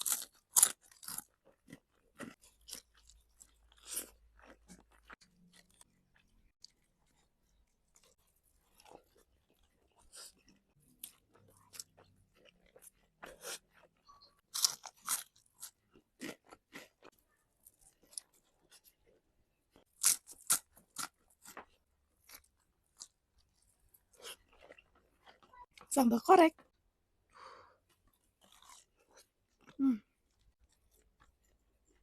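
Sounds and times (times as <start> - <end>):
chewing crispy fried chicken: 0.0 - 25.9, 26.6 - 32.0.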